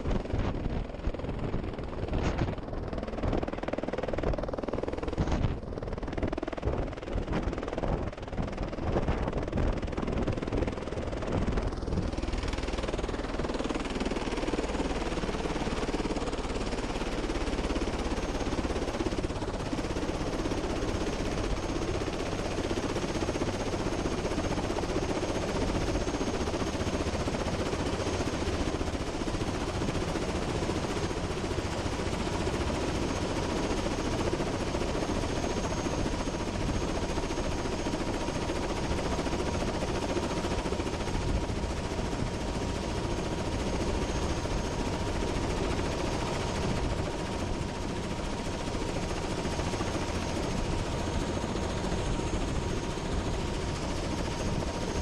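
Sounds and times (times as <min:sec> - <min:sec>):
helicopter rotor beating: 0:00.0 - 0:55.0.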